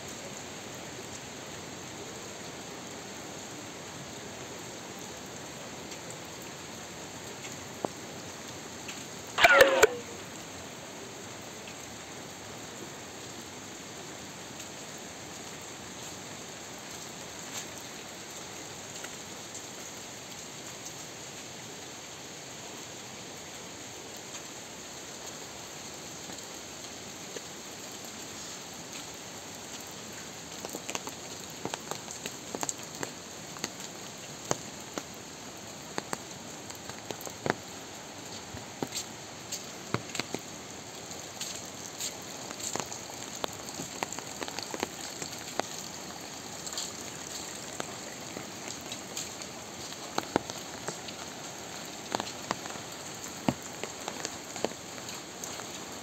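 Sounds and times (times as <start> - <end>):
raindrops ticking on surfaces: 0.0 - 56.0
steady rain: 0.0 - 56.0.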